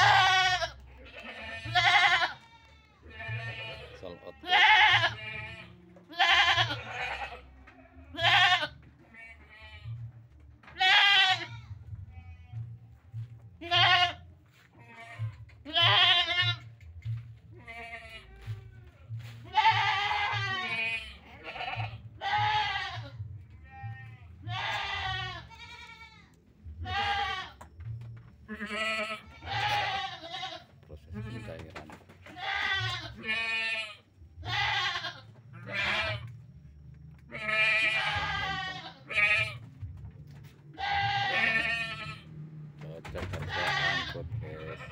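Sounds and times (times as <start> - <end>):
goats bleating: 0.0 - 12.8, 13.6 - 27.7, 28.4 - 36.4, 37.2 - 44.9.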